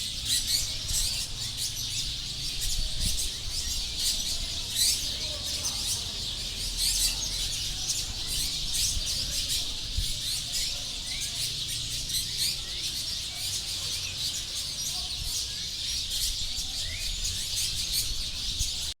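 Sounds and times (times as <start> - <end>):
flock of birds chirping: 0.0 - 19.0.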